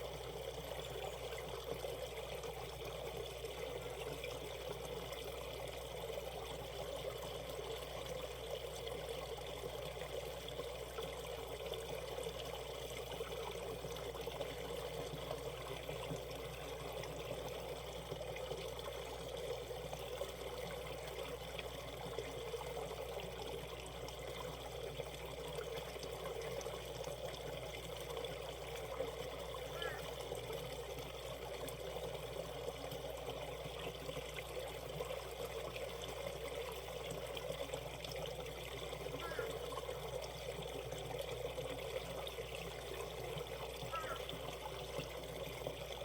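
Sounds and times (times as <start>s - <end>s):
stream running: 0.0s - 46.0s.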